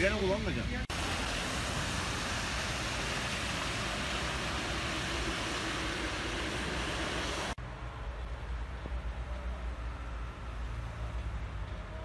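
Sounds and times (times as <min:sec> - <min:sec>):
rain and tyres on wet road: 0:00.0 - 0:12.0.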